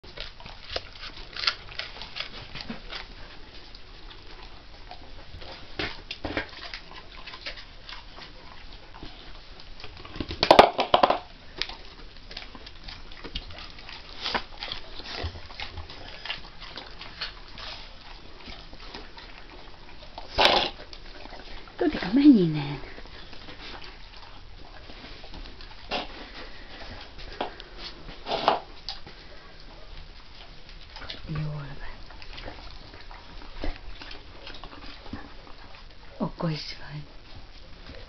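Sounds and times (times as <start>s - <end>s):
dog crunching apple: 0.0s - 36.6s.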